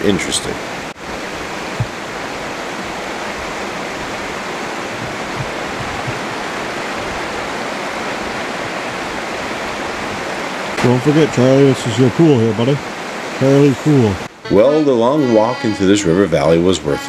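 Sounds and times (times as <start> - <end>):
river rushing over rocks: 0.6 - 14.4.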